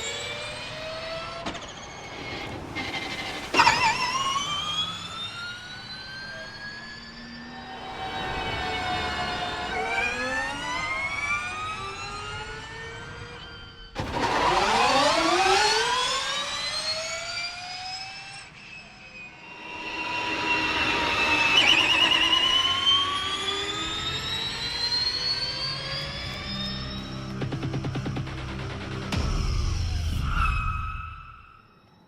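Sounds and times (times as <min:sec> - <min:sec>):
electric race car whine: 0:00.0 - 0:29.4.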